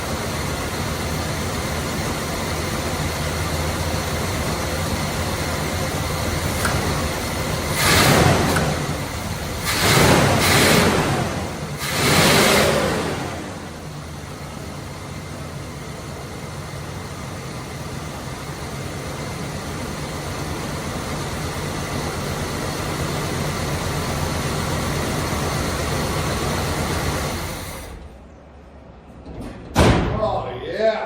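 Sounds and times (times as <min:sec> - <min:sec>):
pickup truck engine running: 0:00.0 - 0:28.2.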